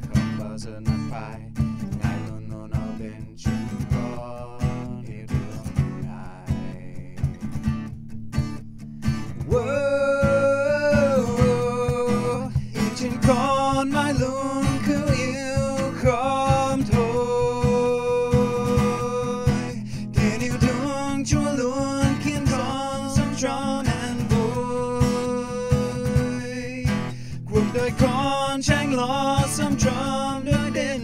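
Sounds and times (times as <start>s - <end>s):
man singing: 0.0s - 7.6s, 9.4s - 31.0s
acoustic guitar strumming: 0.0s - 31.0s.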